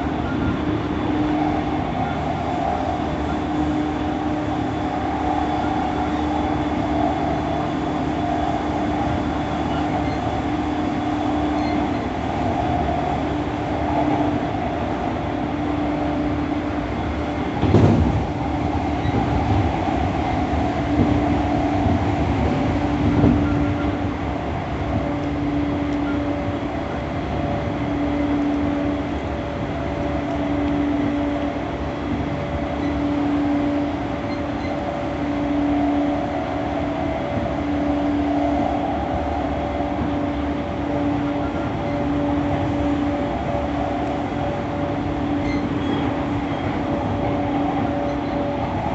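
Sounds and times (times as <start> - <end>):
constant low hum: 0.0 - 48.9
train wheels rumbling on rail: 0.0 - 48.9.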